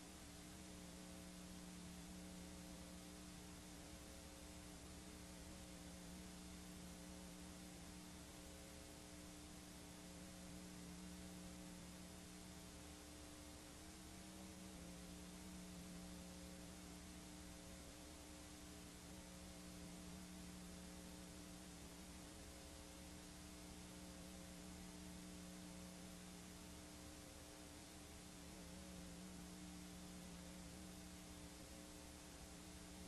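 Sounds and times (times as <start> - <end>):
faint tape hum and hiss: 0.0 - 33.0.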